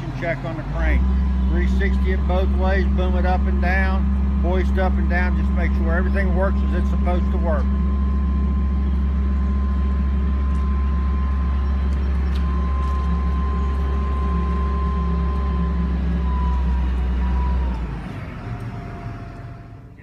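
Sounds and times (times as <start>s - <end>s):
crane engine hum: 0.0s - 20.0s
high whine: 0.0s - 20.0s.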